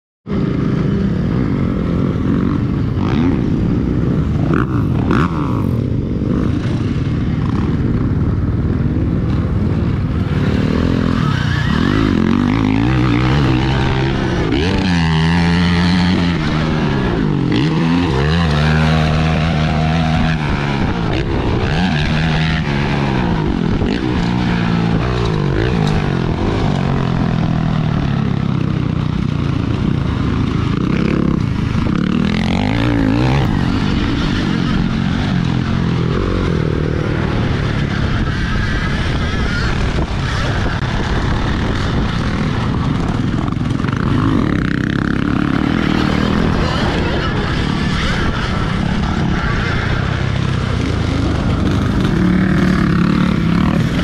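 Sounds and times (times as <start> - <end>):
rush of riding noise: 0.3 - 54.0.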